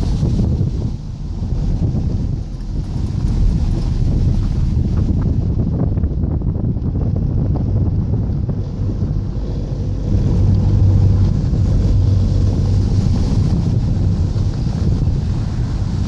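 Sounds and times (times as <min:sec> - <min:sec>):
car rumble: 0:00.0 - 0:16.0
wind buffeting microphone: 0:00.0 - 0:16.0.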